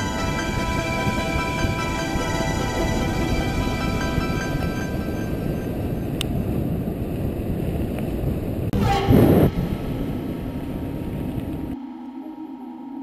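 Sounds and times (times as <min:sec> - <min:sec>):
wind rumbling on microphone: 0:00.0 - 0:11.8
steady low hum: 0:00.0 - 0:13.0.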